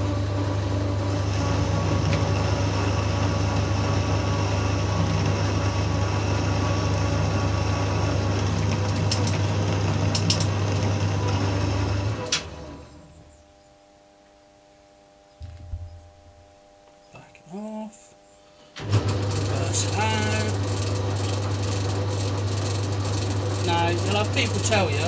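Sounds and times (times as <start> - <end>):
lathe motor humming: 0.0 - 14.3, 18.8 - 25.0.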